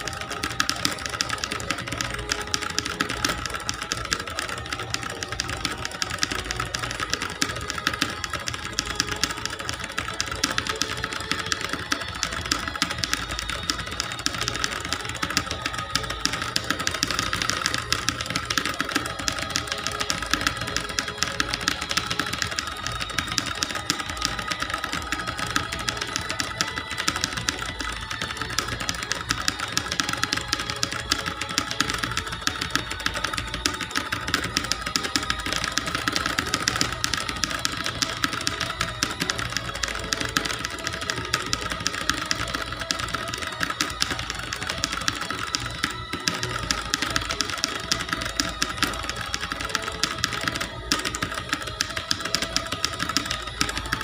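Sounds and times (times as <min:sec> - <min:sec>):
typing on clicky keyboard: 0:00.0 - 0:54.0.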